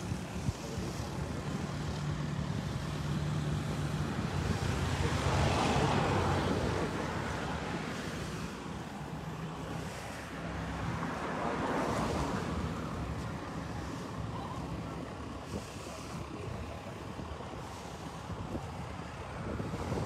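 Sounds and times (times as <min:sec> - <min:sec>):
van engine humming: 0:00.0 - 0:20.0.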